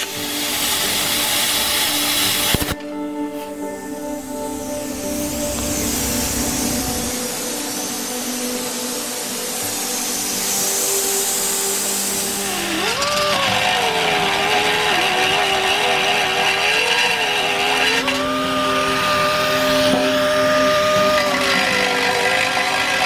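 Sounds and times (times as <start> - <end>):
die grinder whining on metal: 0.0 - 3.0, 3.6 - 23.0.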